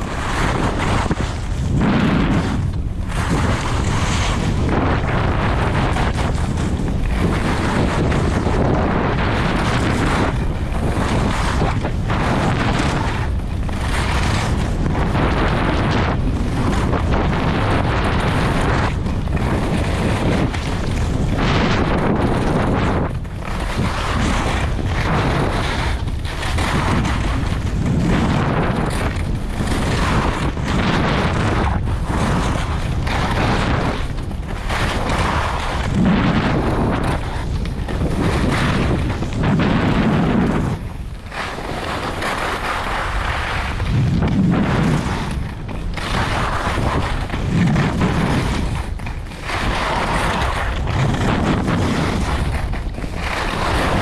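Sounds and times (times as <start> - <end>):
skis scraping over snow: 0.0 - 54.0
wind rumbling on microphone: 0.0 - 54.0.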